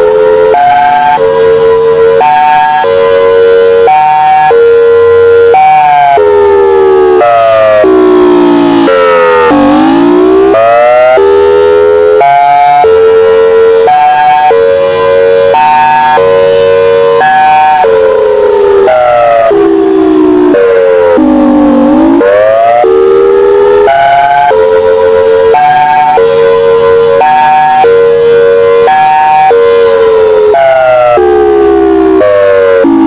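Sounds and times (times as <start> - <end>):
siren in high-low pattern: 0.0 - 33.0.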